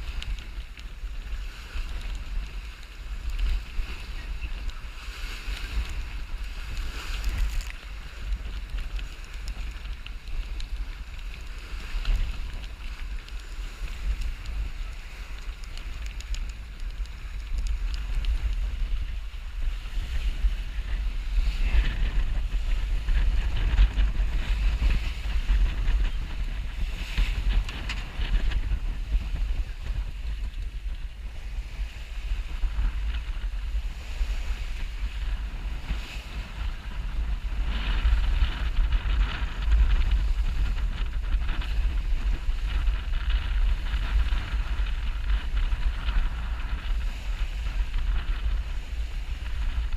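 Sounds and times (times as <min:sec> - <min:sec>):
water rushing along hull: 0:00.0 - 0:49.9
wind buffeting microphone: 0:00.0 - 0:49.9.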